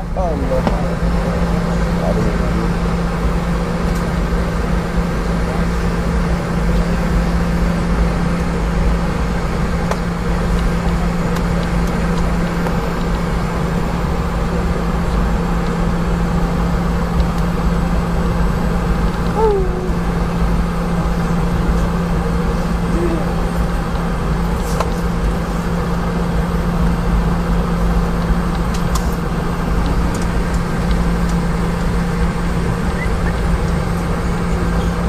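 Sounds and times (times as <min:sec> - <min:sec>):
jet engines idling drone: 0:00.0 - 0:35.0.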